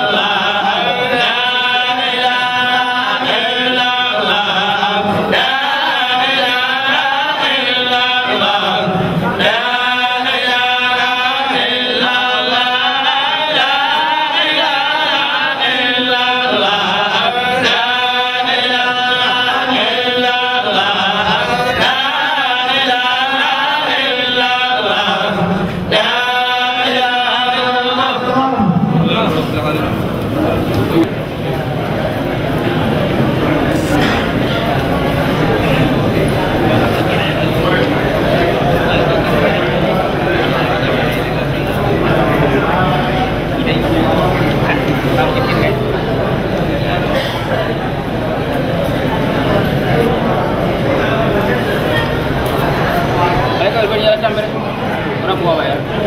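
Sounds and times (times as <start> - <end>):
men chanting devotional song: 0.0 - 56.0.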